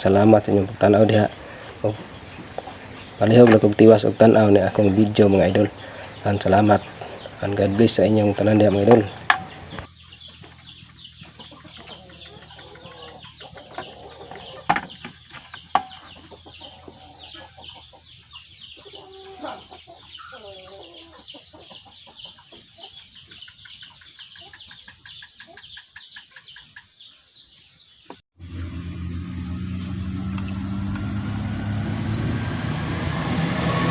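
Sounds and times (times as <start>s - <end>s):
chickens clucking: 0.0s - 27.6s.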